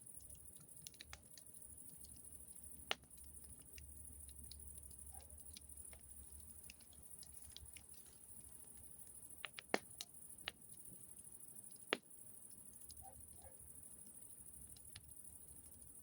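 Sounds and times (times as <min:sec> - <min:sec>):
burning wood popping: 0:00.0 - 0:13.0
campfire crackling: 0:00.0 - 0:16.0.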